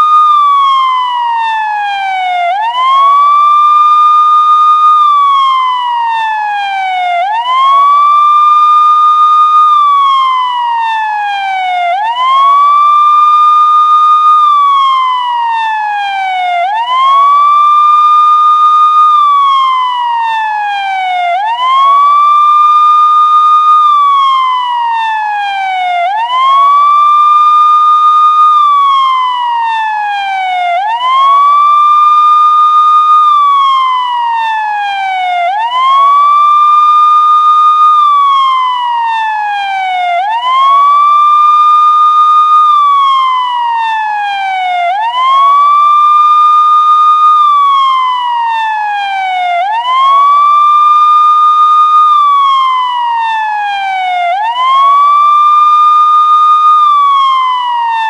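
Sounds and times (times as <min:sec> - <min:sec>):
police siren wailing: 0:00.0 - 0:58.0.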